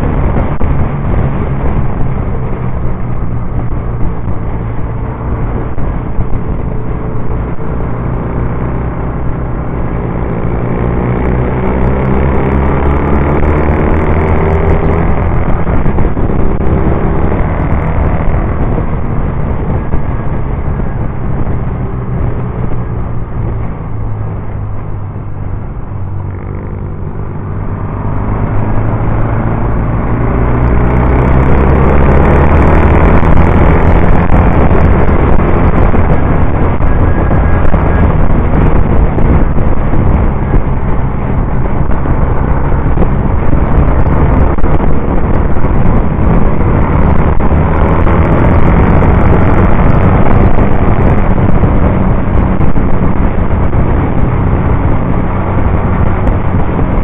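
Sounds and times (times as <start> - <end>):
motorcycle engine running hard: 0.0 - 57.0
wind rush on microphone: 0.0 - 57.0.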